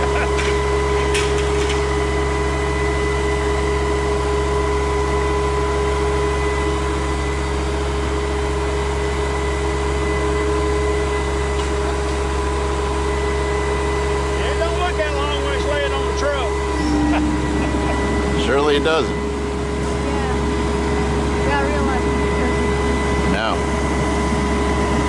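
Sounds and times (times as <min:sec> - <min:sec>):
diesel engine drone: 0:00.0 - 0:25.0
pump whine: 0:00.0 - 0:25.0.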